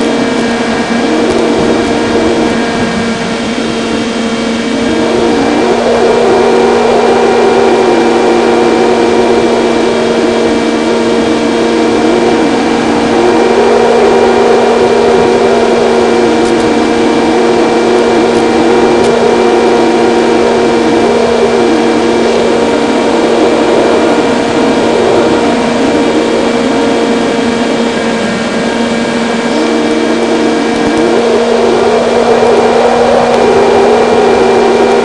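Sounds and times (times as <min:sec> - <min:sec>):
model airplane motor and propeller: 0:00.0 - 0:35.0
wind rushing: 0:00.0 - 0:35.0.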